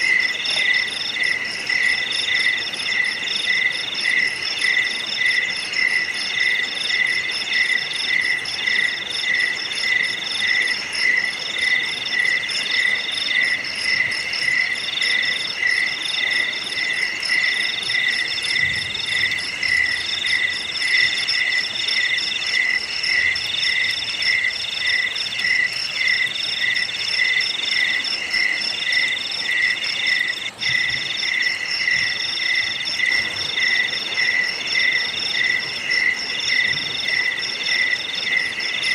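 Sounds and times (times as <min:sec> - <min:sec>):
insect trills: 0:00.0 - 0:38.9
insects chirping: 0:00.0 - 0:38.9.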